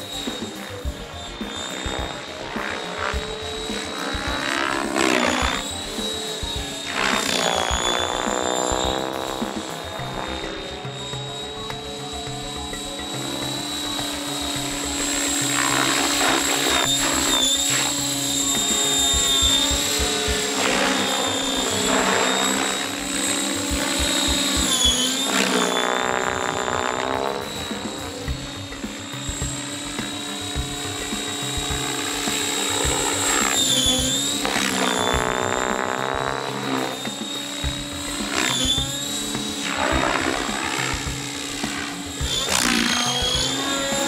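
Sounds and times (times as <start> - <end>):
model helicopter high-pitched whine: 0.0 - 44.0
rotor blades whooshing: 0.0 - 44.0.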